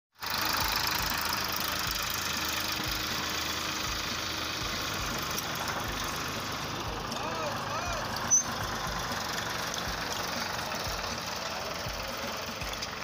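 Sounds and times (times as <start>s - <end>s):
tractor diesel engine running: 0.1s - 13.0s.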